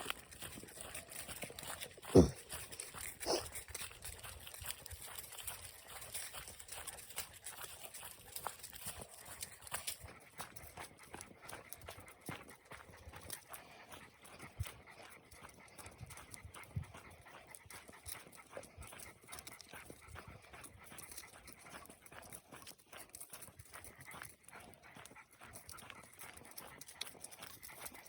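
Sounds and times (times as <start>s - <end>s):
dog panting: 0.0s - 28.0s
footsteps on a trail: 0.0s - 28.0s.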